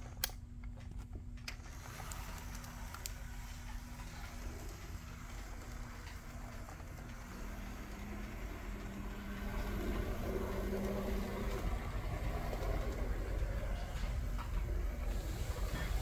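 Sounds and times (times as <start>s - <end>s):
model train wheels on rails: 0.0s - 16.0s.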